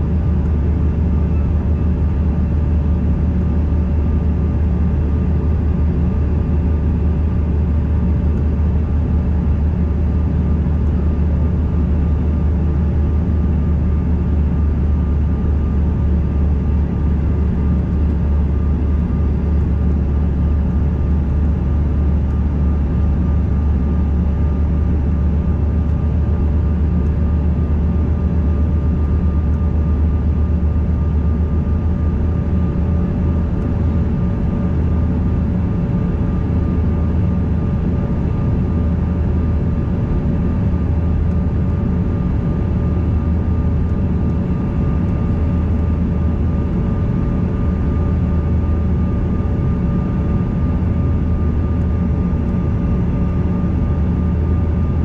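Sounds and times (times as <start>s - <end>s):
jet cabin drone: 0.0s - 55.0s.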